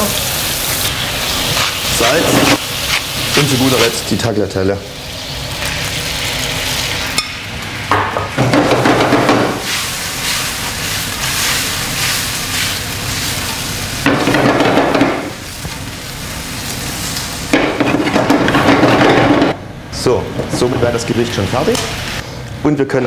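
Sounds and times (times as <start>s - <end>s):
food sizzling in a wok: 0.0s - 19.6s, 21.0s - 22.3s.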